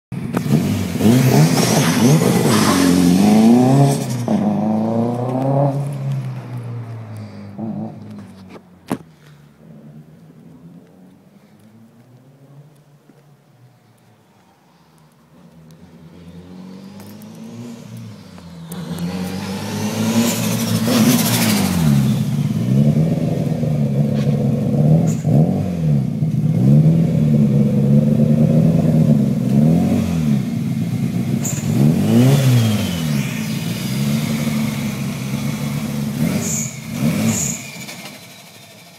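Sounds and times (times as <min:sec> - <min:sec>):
car engine revving: 0:00.2 - 0:08.6, 0:15.3 - 0:38.9.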